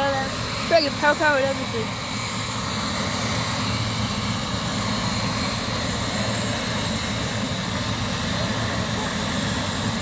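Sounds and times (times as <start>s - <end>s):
helicopter engine rumble: 0.0s - 10.0s.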